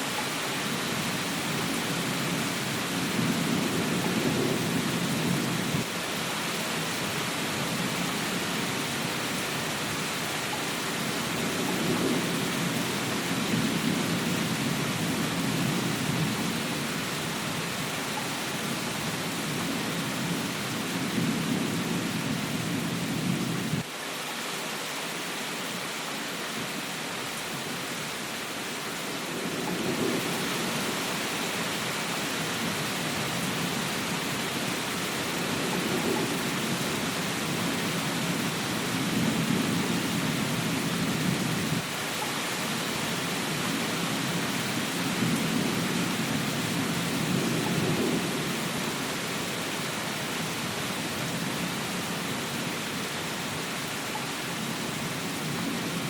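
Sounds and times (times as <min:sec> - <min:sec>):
rain hissing: 0:00.0 - 0:56.0.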